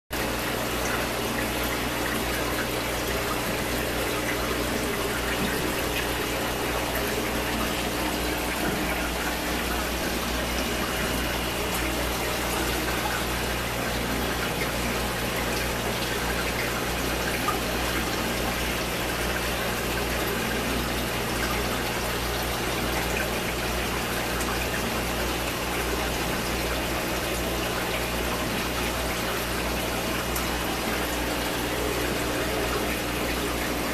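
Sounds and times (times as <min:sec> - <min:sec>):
aquarium water bubbling: 0:00.1 - 0:33.9.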